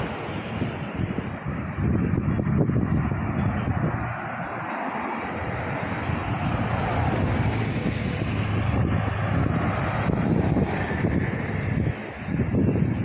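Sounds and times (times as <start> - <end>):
bus driving past: 0.0 - 13.0
wind noise on microphone: 0.0 - 13.0.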